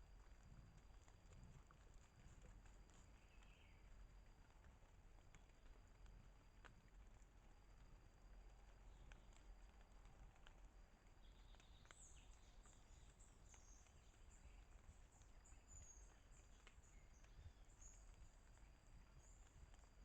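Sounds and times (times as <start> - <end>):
small ticks: 0.0 - 20.0.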